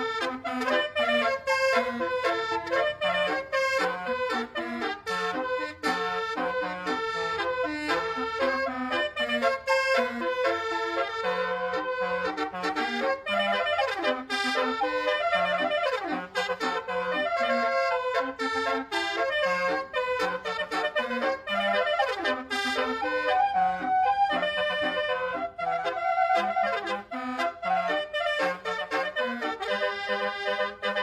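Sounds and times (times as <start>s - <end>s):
bus horn playing a melody: 0.0s - 31.0s.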